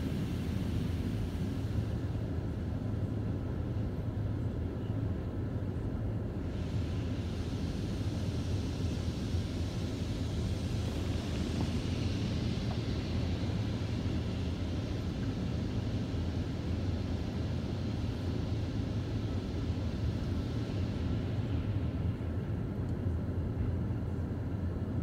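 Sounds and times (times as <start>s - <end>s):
car wash low rumble: 0.0s - 25.0s.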